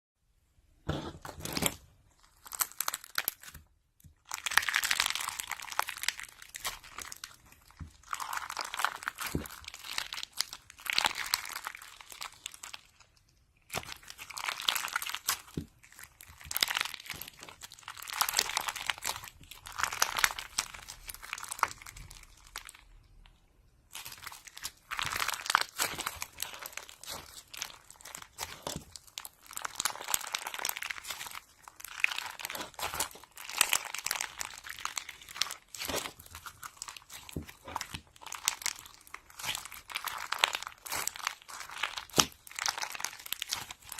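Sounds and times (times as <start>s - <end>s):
slime crackling and popping: 0.9s - 43.9s.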